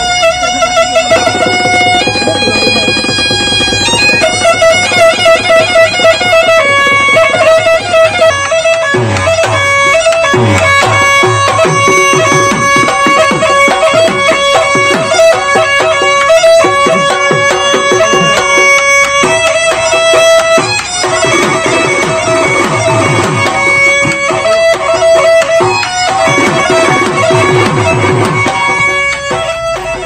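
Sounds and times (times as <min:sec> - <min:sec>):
drum beats: 0:00.0 - 0:30.0
wind instrument long notes: 0:00.0 - 0:30.0.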